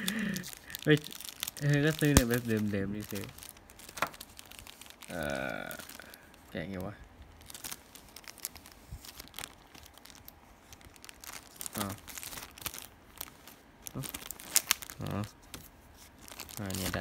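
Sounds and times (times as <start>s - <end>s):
plastic packaging crinkling and tearing: 0.0s - 17.0s.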